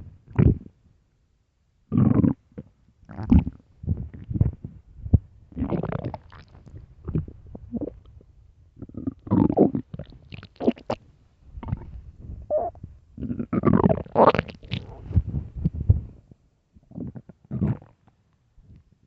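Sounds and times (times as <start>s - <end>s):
stomach growling and gurgling: 0.2s - 0.8s, 1.9s - 11.0s, 11.6s - 16.2s, 16.8s - 18.1s.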